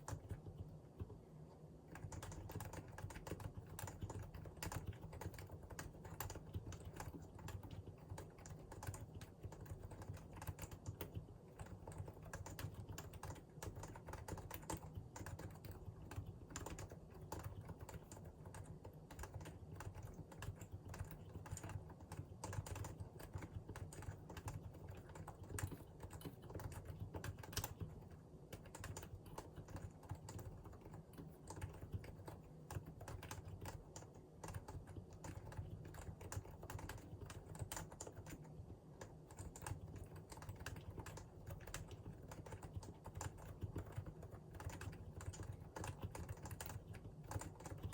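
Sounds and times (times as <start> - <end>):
fast typing on keyboard: 0.0 - 1.2, 1.9 - 47.9.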